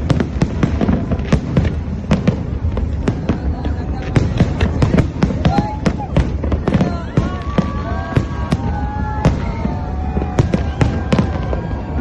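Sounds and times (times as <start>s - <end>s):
fireworks bangs: 0.0s - 12.0s
low rumble: 0.0s - 12.0s
whistling fireworks: 0.0s - 12.0s.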